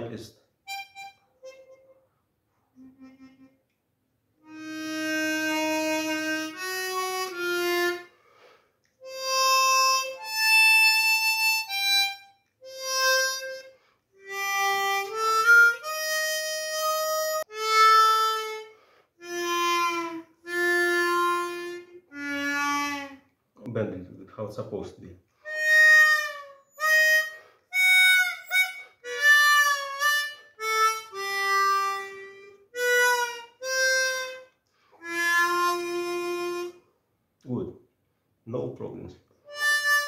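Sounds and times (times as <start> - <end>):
chromatic harmonica notes and chords: 0.6 - 23.4, 25.4 - 37.0, 39.4 - 40.0.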